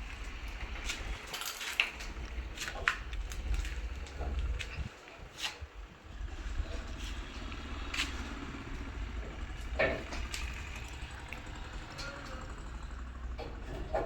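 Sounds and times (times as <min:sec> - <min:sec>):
steady low rumble: 0:00.0 - 0:13.2.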